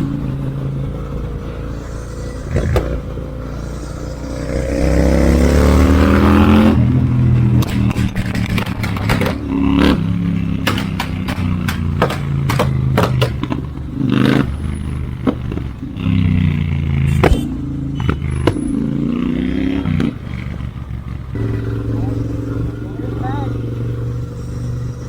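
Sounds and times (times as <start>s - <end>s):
exhaust pops and crackles: 0.0s - 3.9s, 6.2s - 25.0s
motorcycle engine revving: 0.0s - 25.0s.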